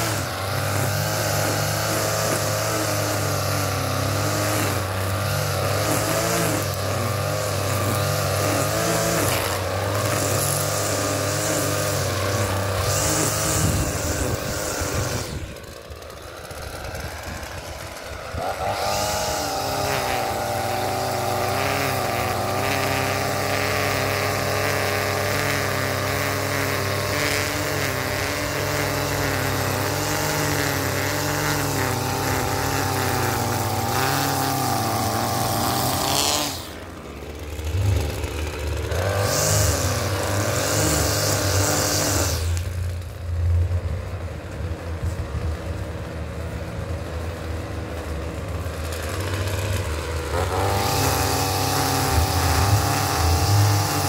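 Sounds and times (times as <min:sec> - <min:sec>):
string trimmer engine revving: 0:00.0 - 0:54.0.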